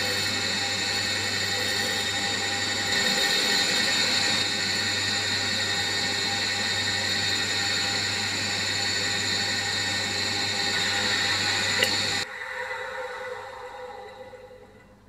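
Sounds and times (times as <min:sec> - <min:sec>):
surface grinder whine: 0:00.0 - 0:15.0.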